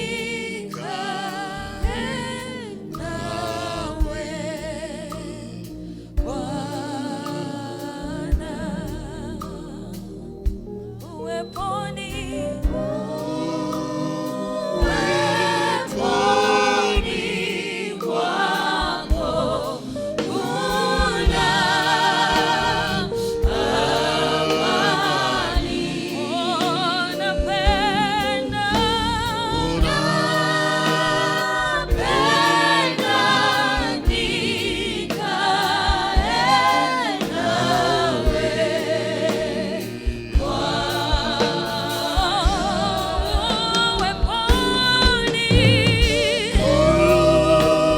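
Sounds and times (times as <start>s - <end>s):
choir singing gospel song: 0.0s - 47.9s.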